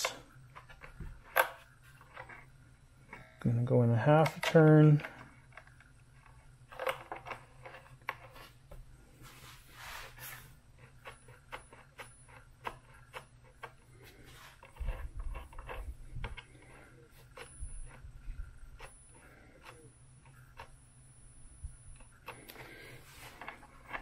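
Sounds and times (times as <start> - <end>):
small clicks and light scraping: 0.0 - 2.5, 3.1 - 8.8, 10.4 - 20.9, 21.7 - 24.0.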